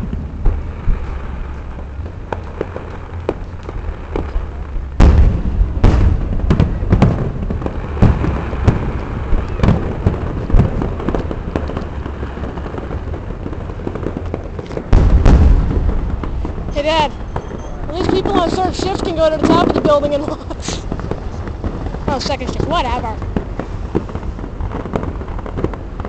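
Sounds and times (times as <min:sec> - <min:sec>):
fireworks bangs and crackles: 0:00.0 - 0:26.0
fireworks booms: 0:00.0 - 0:26.0.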